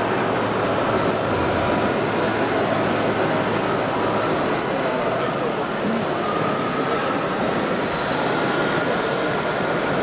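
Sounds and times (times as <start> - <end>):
faint high whine: 0.0 - 9.5
model machines mechanical noise: 0.0 - 10.0.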